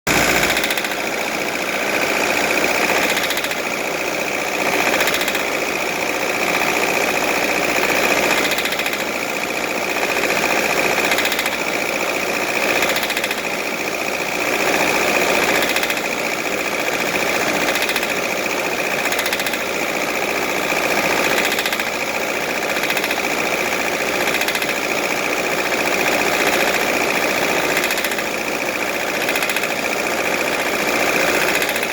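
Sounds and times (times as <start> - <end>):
diesel engine knocking: 0.1 - 31.9.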